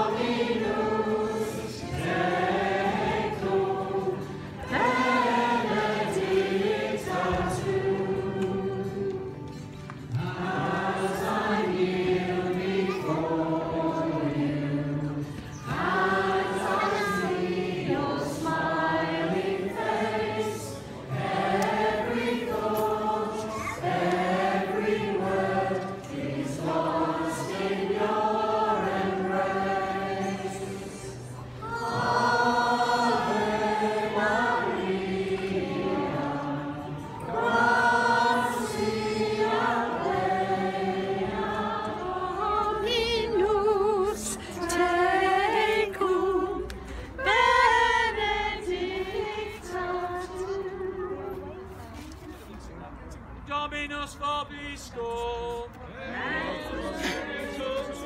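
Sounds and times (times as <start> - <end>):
congregation singing: 0.0 - 52.1, 53.4 - 58.0.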